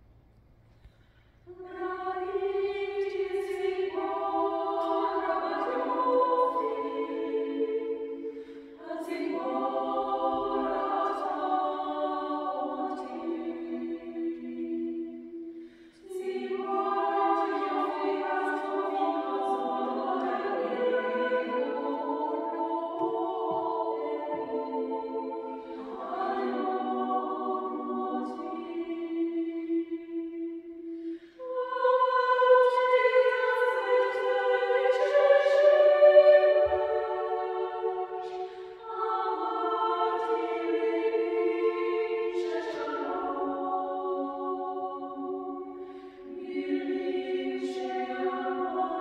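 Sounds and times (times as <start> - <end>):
choir singing a cappella: 1.4 - 49.0.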